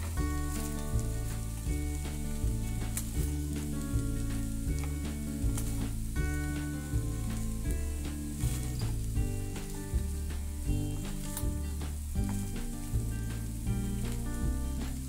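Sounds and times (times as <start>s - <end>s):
background music with steady beat: 0.0s - 15.0s
oil sizzling: 0.0s - 15.0s.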